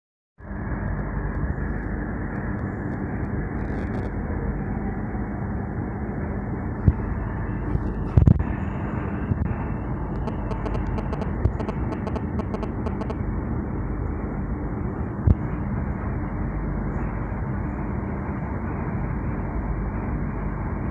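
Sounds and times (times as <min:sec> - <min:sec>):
train rumbling on track: 0:00.4 - 0:20.9.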